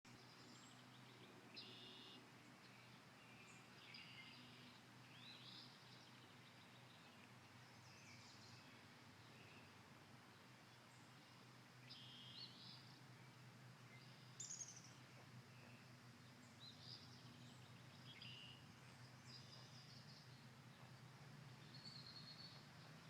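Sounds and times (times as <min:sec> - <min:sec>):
distant songbirds chirping: 0:00.1 - 0:23.0
low steady hum: 0:00.1 - 0:23.0.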